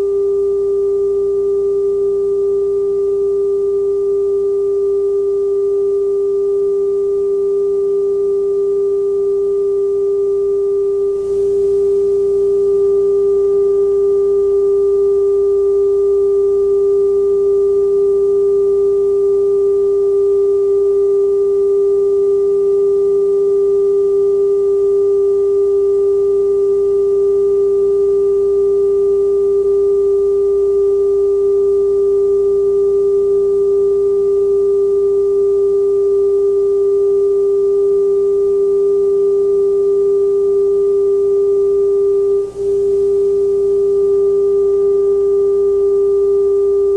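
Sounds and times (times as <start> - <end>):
low hum and hiss: 0.0 - 46.9.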